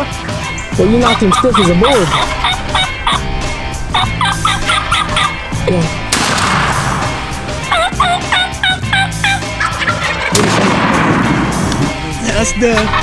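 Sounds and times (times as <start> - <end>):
sharp crack: 0.0 - 13.0
turkey gobbling: 0.0 - 13.0.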